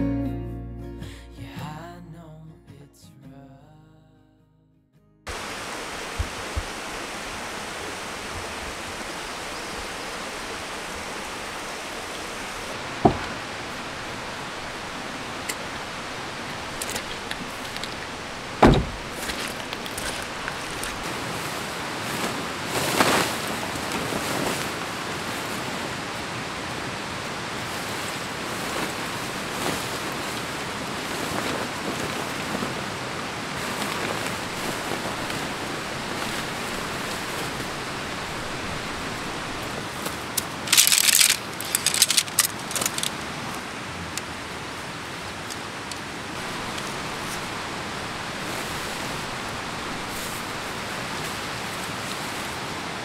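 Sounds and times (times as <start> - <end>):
outdoor wind hiss: 5.3 - 53.0
tent fabric rustling and crinkling: 5.3 - 53.0.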